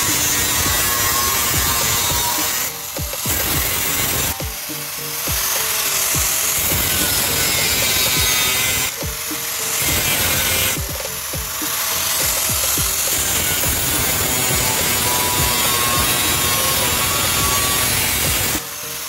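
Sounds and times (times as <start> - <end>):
angle grinder cutting steel: 0.0 - 19.0.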